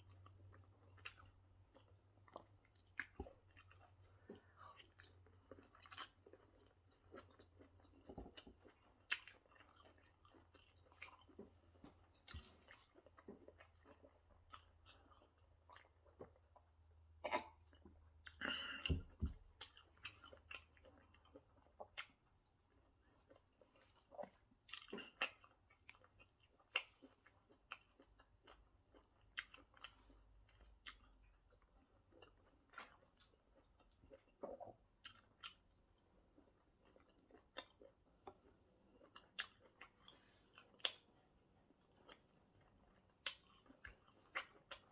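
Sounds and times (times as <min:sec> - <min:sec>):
person chewing food: 0:00.0 - 0:44.9.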